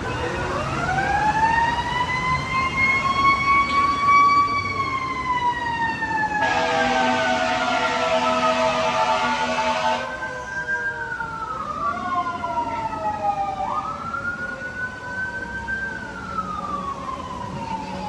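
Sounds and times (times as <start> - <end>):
siren-like wail: 0.0 - 18.0.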